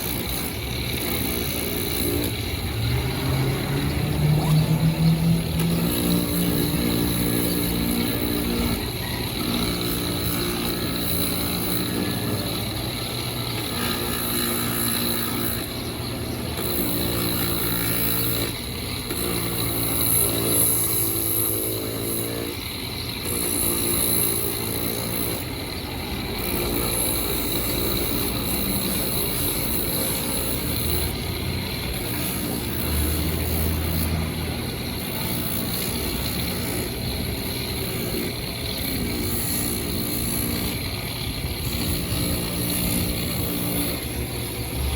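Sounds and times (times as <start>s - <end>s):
sanding machine sanding rubber: 0.0s - 44.9s.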